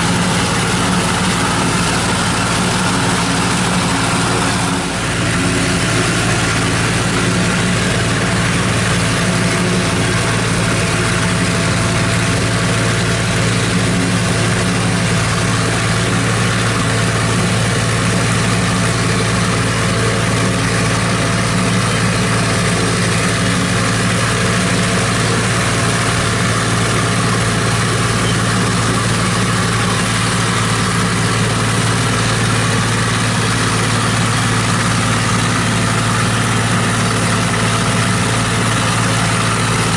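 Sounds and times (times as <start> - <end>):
engine drone: 0.0 - 39.9
forage harvester chopping corn: 0.0 - 39.9.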